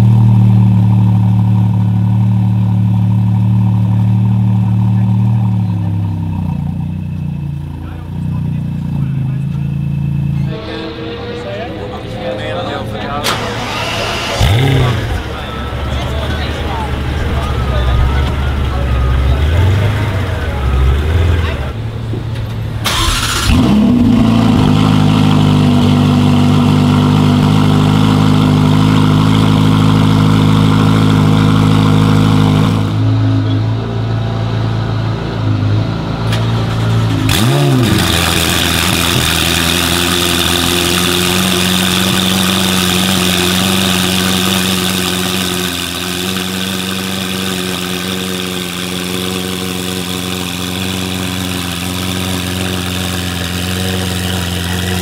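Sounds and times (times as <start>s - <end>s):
car engine high idle: 0.0s - 55.0s
car engine starting with rev flare: 0.0s - 55.0s.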